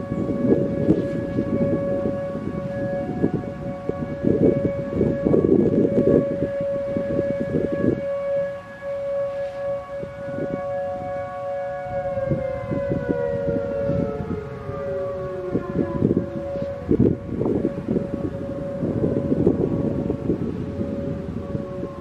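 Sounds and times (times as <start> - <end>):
dual-tone warning siren: 0.0 - 22.0
siren tone sliding down: 0.0 - 22.0
wind noise on microphone: 0.0 - 22.0.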